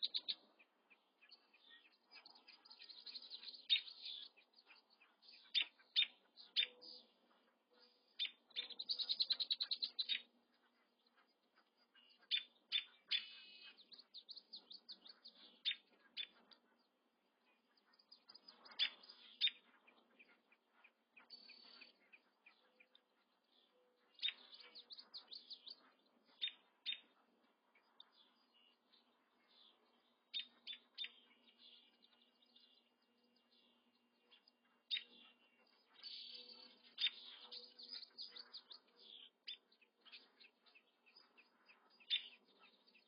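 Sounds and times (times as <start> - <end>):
crane chicks peeping: 0.0 - 43.0.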